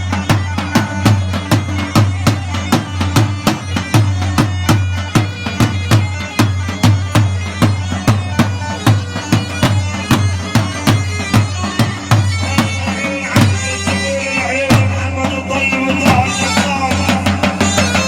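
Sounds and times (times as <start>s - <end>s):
fast steady drum beat: 0.0s - 18.0s.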